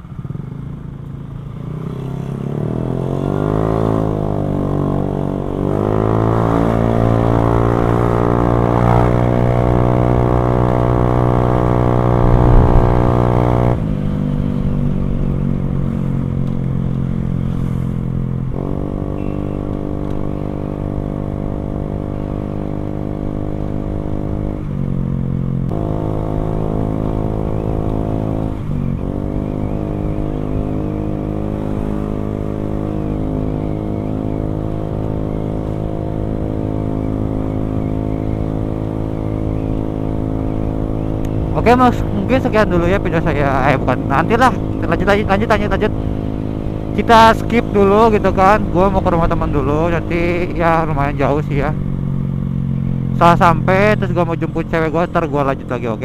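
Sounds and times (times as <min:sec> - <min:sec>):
motorcycle accelerating: 0:00.0 - 0:56.0.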